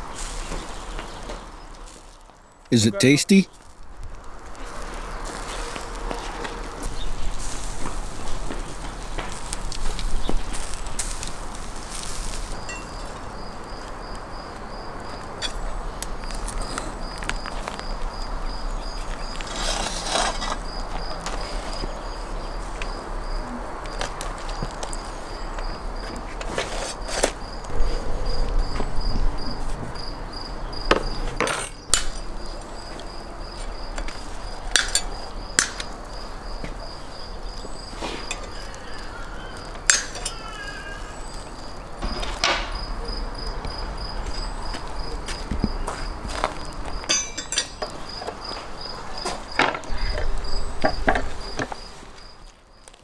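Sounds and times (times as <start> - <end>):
insect chirping: 9.0 - 53.0.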